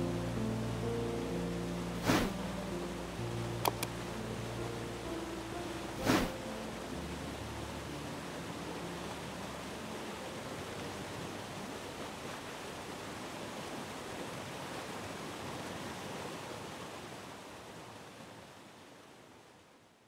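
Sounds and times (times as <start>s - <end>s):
river rushing over rocks: 0.0s - 19.2s.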